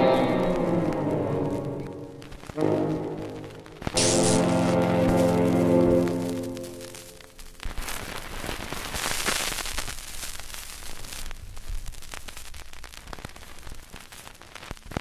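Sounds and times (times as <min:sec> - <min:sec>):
crackling static with pops: 0:00.0 - 0:15.0.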